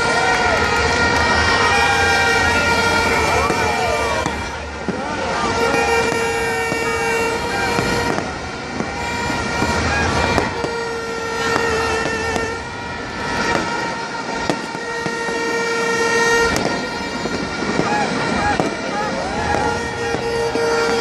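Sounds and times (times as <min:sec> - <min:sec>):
crowd din: 0:00.0 - 0:21.0
fireworks popping: 0:00.0 - 0:21.0
long horn blasts: 0:00.0 - 0:21.0.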